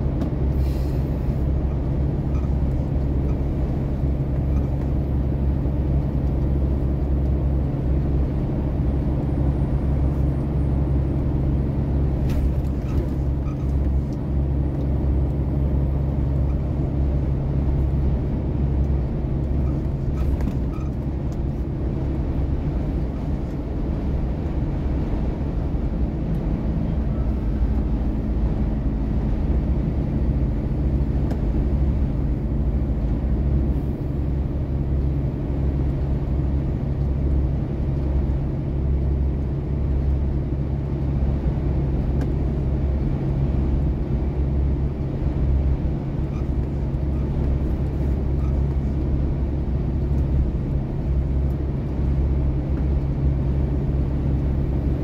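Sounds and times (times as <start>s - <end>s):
vehicle engine and tyre drone: 0.0s - 55.0s.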